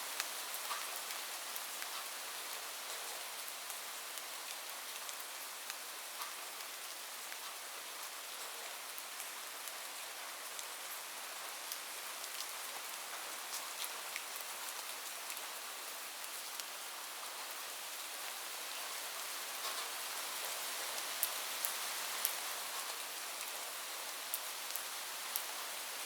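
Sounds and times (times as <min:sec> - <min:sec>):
rain on a roof: 0:00.0 - 0:26.0.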